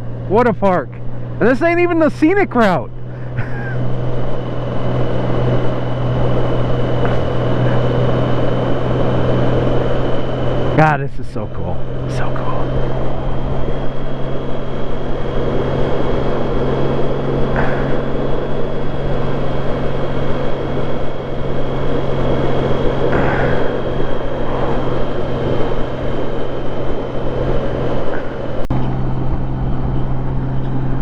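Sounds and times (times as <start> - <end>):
faint high whine: 0.0 - 31.0
motorcycle engine hum: 0.0 - 31.0
riding wind noise: 0.0 - 31.0.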